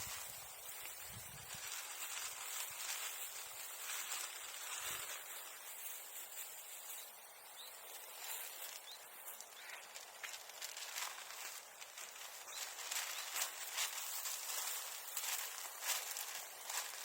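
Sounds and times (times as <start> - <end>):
faint rustling: 0.0 - 17.0
small chirps: 0.0 - 17.0
steady high hiss: 0.0 - 17.0.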